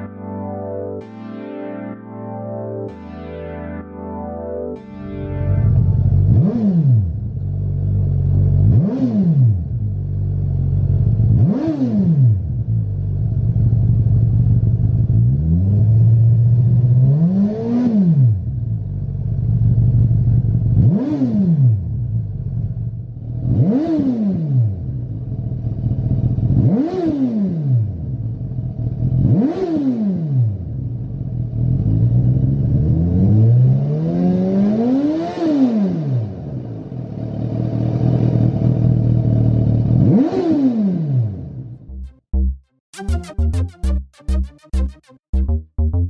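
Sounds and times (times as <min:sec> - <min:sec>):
motorcycle engine idling and revving: 0:05.4 - 0:42.3.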